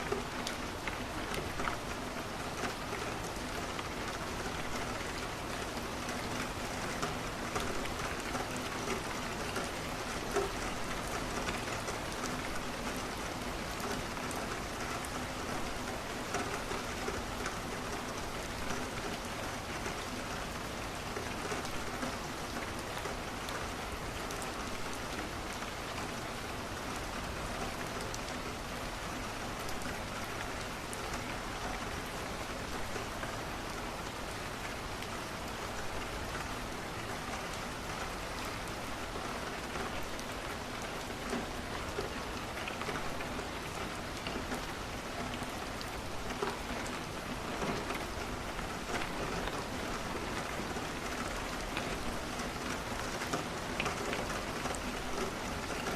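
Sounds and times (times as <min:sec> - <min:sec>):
rain pattering on a window: 0:00.0 - 0:55.9.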